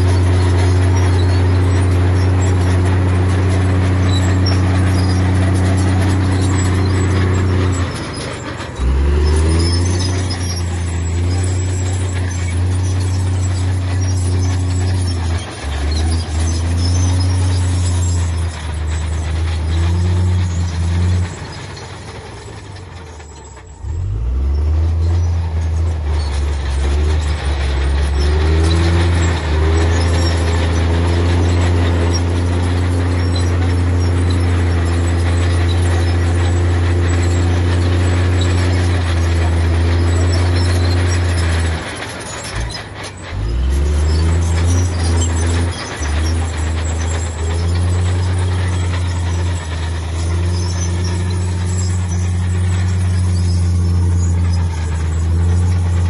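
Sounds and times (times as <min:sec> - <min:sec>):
heavy diesel engine working: 0:00.0 - 0:56.0.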